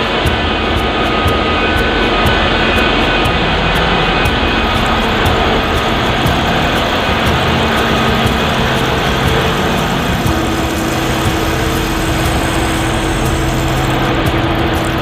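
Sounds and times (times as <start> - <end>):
engine room machinery din: 0.0 - 15.0.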